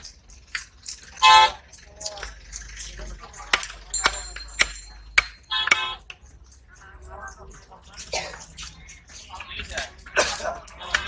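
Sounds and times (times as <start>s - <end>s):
faint clinks: 0.0s - 9.2s.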